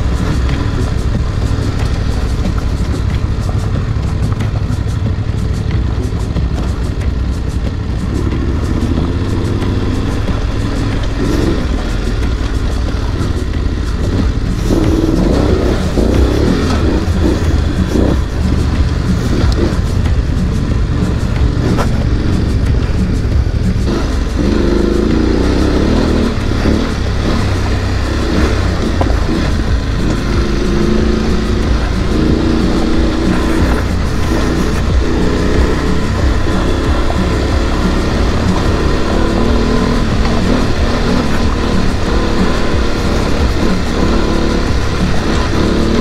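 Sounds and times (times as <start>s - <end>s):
background music: 0.0s - 46.0s
motorcycle engines on gravel: 0.0s - 46.0s.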